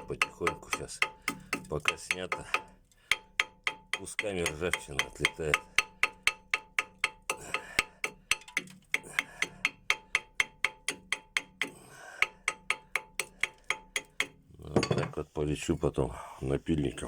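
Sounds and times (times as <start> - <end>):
hammer tapping on metal: 0.0 - 15.1.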